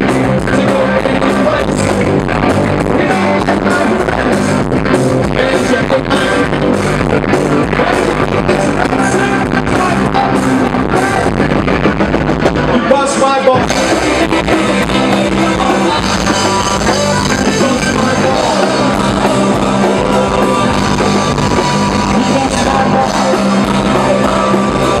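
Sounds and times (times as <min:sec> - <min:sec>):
drums: 0:00.0 - 0:25.0
electric guitar: 0:00.0 - 0:25.0
rock band playing loudly: 0:00.0 - 0:25.0.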